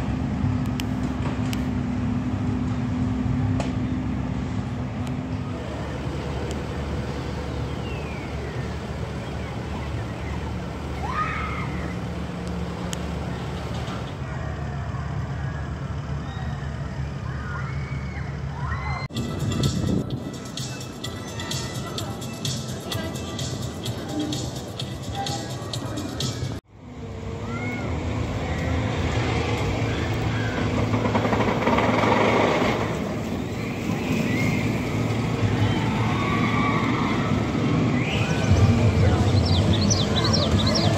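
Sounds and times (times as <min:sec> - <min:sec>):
diesel engine rumbling: 0:00.0 - 0:40.9.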